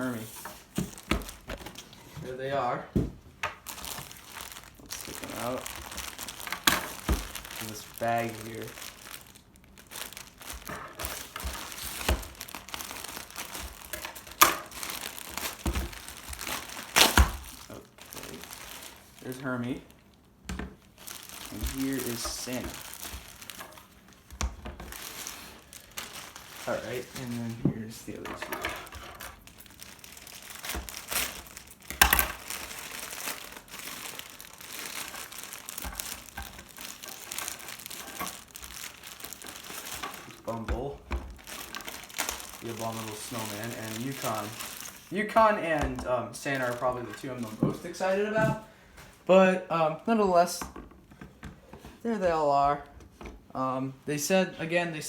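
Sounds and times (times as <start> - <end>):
bag crinkling and rustling: 0.0 - 2.6, 3.6 - 49.2.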